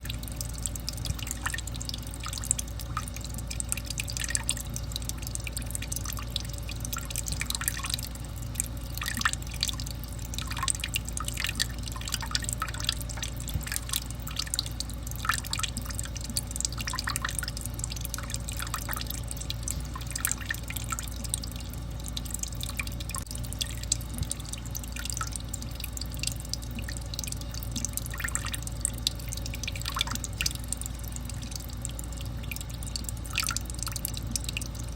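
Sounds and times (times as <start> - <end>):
steady low hum: 0.0 - 34.9
water dripping and splashing: 0.0 - 34.9.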